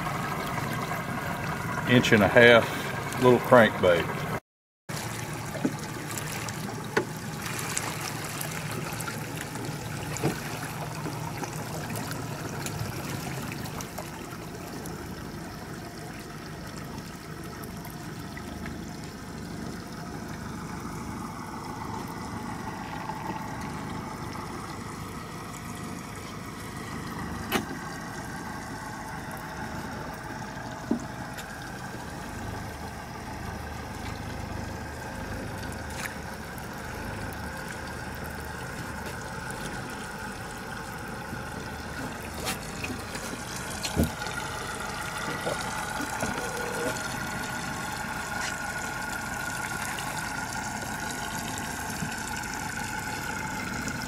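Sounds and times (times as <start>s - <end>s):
outboard motor running: 0.0s - 54.0s
water washing along hull: 0.0s - 54.0s.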